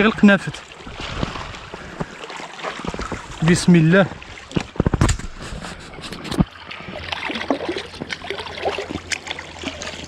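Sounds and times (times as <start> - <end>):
sea water splashing: 0.0 - 10.0.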